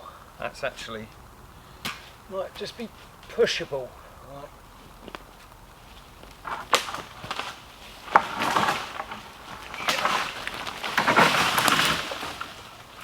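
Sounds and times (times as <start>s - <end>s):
branches crackling and rustling: 0.0s - 13.0s
dry wood cracking: 0.2s - 13.0s.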